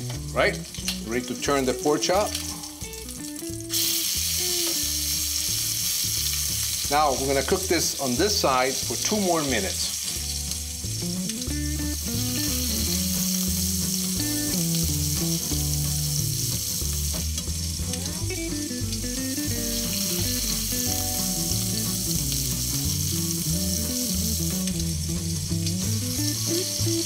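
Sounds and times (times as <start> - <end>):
low held background notes: 0.0 - 27.0
meat sizzling in oil: 0.0 - 27.0.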